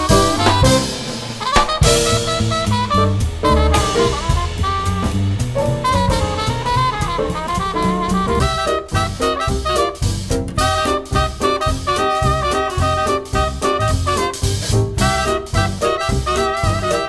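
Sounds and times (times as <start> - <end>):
upbeat jazz music: 0.0 - 17.0.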